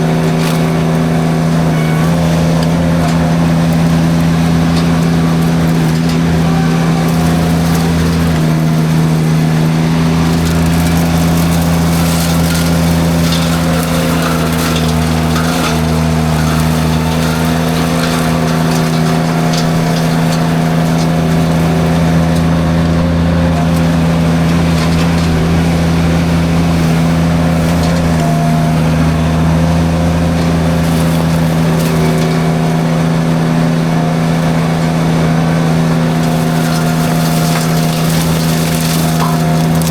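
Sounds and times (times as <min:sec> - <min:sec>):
brush cracking in mulcher: 0:00.0 - 0:39.9
skid steer engine running hard: 0:00.0 - 0:39.9.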